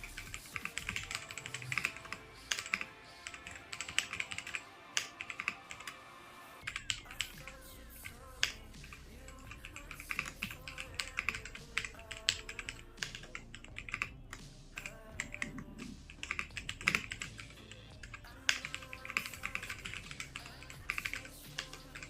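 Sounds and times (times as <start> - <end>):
mechanical keyboard typing: 0.0 - 6.0, 6.6 - 7.4, 8.4 - 14.2, 14.8 - 22.0.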